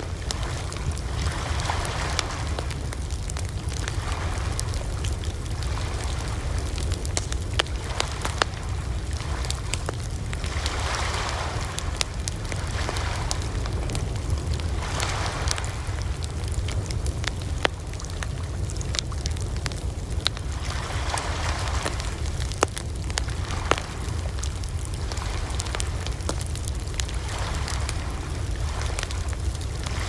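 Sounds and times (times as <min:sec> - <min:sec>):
wood fire crackling: 0:00.0 - 0:30.0
sharp snaps and pops: 0:01.8 - 0:30.0.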